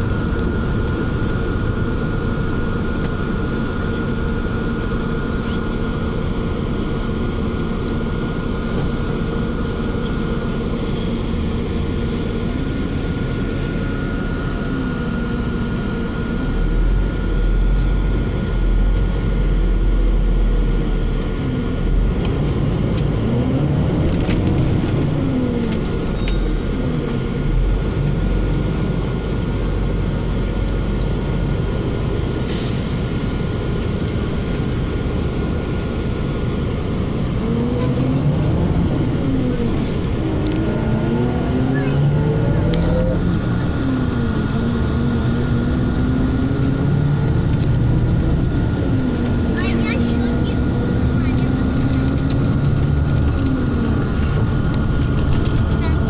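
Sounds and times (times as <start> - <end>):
heavy low rumble: 0.0 - 56.0
vehicle running rumble: 0.0 - 56.0.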